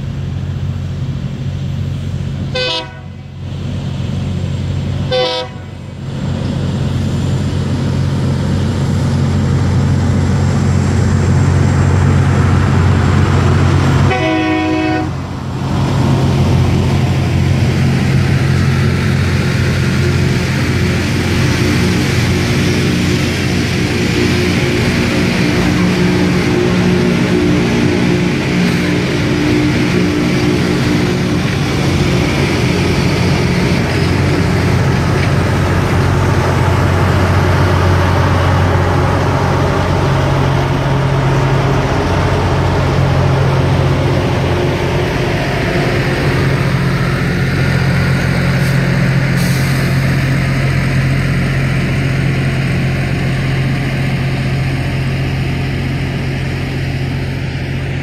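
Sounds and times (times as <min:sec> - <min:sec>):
diesel engines droning: 0:00.0 - 0:58.0
harsh grinding hiss on rail: 0:00.0 - 0:58.0.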